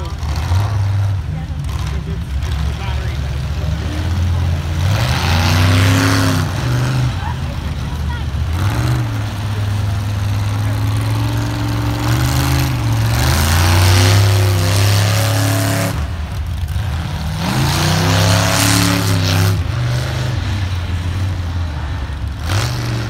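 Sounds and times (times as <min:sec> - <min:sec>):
truck engine revving: 0:00.0 - 0:23.0
tyres churning through mud: 0:00.0 - 0:23.0.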